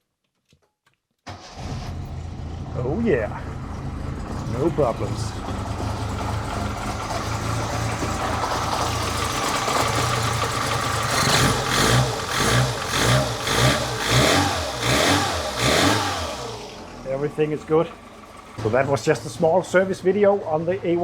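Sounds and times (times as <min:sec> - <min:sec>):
car engine idling: 0:01.3 - 0:21.0
engine revving: 0:01.3 - 0:21.0.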